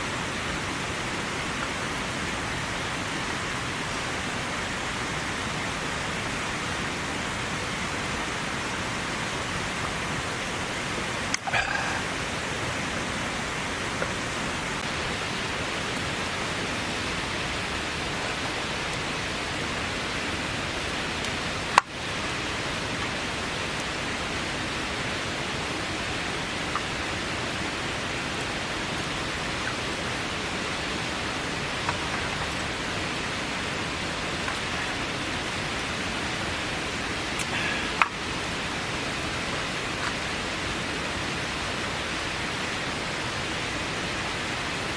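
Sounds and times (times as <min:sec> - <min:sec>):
heavy rain hissing: 0:00.0 - 0:44.9.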